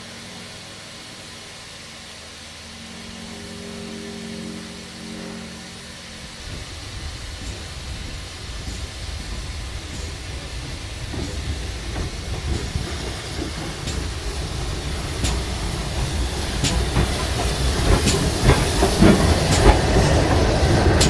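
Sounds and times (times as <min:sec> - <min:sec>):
steam train rumble and hiss: 0:00.0 - 0:21.0.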